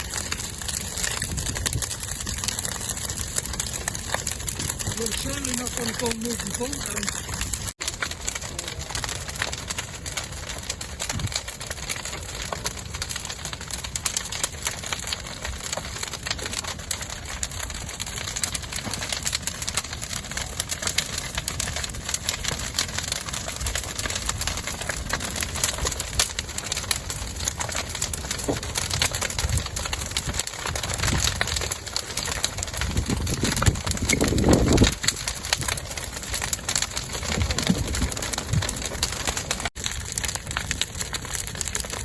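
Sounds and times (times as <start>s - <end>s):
bonfire crackling and popping: 0.0s - 42.0s.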